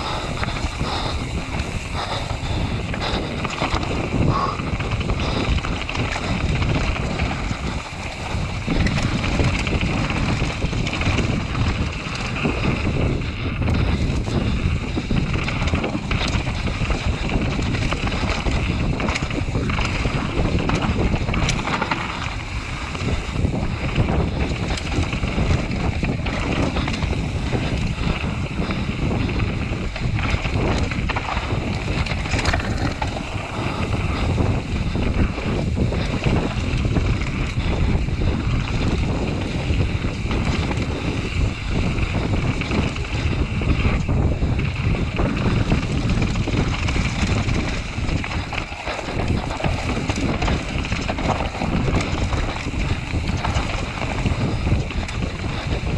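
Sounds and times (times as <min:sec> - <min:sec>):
bike bumps and rattles: 0:00.0 - 0:55.9
tyres rumbling on dirt: 0:00.0 - 0:55.9
wind rushing over microphone: 0:00.0 - 0:55.9.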